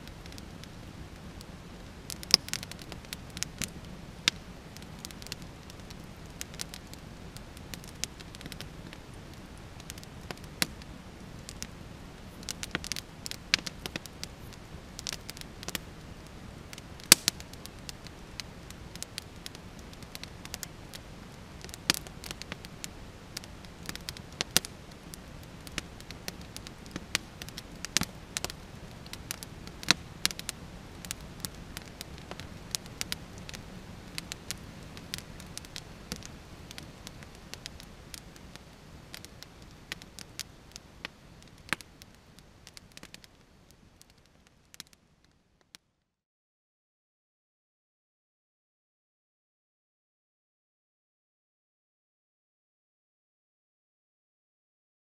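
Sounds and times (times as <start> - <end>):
campfire crackling and popping: 0.0 - 45.8
faint steady hiss: 0.0 - 46.2.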